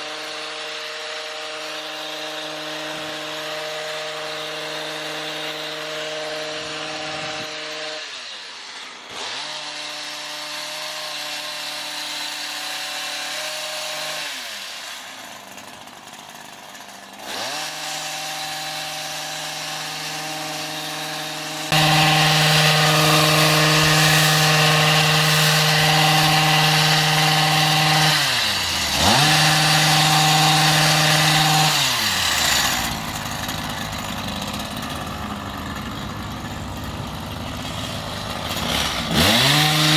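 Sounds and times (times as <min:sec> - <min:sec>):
small petrol engine revving: 0:00.0 - 0:39.9.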